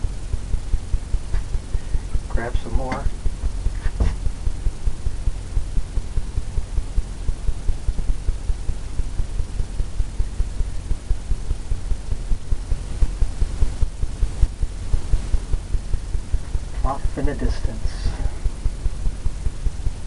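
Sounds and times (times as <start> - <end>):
pulsing low rumble: 0.0 - 20.0.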